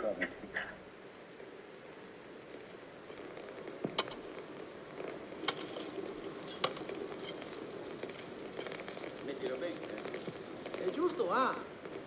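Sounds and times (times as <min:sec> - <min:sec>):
electrical discharge hissing: 0:00.0 - 0:12.0
sharp electrical crackles: 0:00.0 - 0:12.0.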